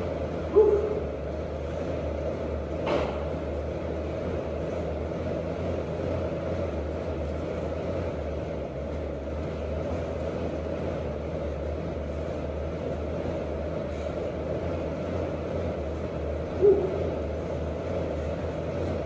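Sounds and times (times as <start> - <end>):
exercise machine fan whirring: 0.0 - 19.0.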